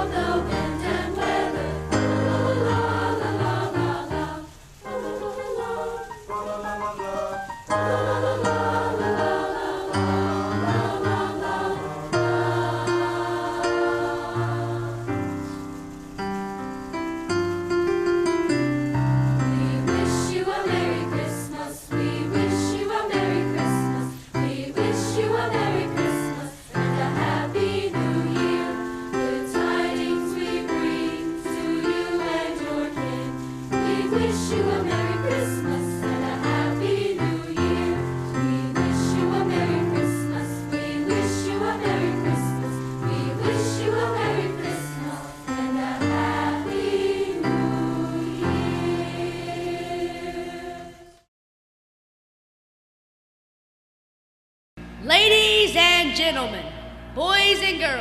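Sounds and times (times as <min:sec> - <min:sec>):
choir singing: 0:00.0 - 0:15.8, 0:19.0 - 0:51.3
instrumental accompaniment: 0:00.0 - 0:51.0.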